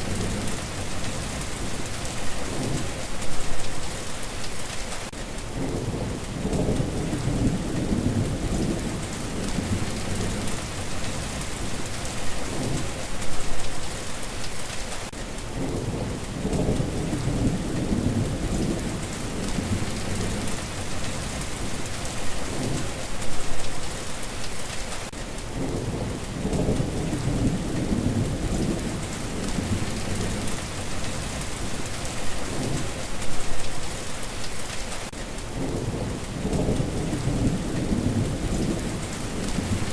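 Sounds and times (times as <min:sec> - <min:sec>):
rolling thunder: 0:00.0 - 0:03.9, 0:05.5 - 0:13.8, 0:15.5 - 0:23.7, 0:25.5 - 0:33.7, 0:35.5 - 0:39.9
heavy rain hissing: 0:00.0 - 0:39.9.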